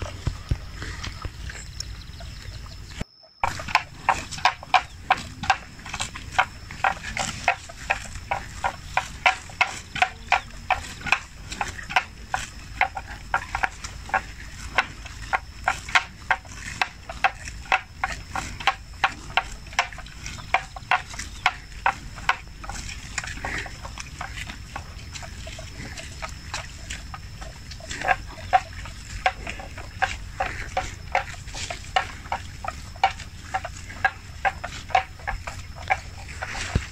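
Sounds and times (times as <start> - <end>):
water buffalo ripping grass: 3.4 - 36.9.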